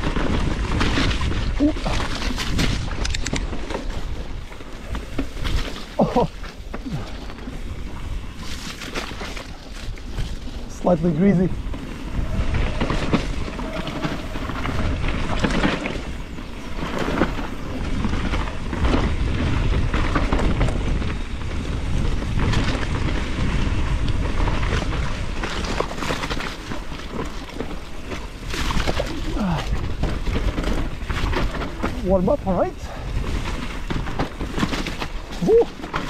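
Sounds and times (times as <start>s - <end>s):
bike knocks and rattles: 0.0s - 10.6s, 11.6s - 36.0s
bike tyre noise: 0.0s - 36.0s
wind rumble: 0.0s - 36.0s.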